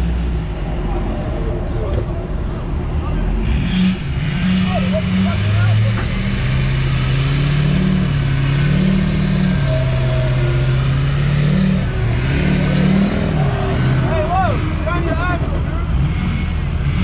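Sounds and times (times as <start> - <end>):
pickup truck engine revving: 2.4 - 17.0.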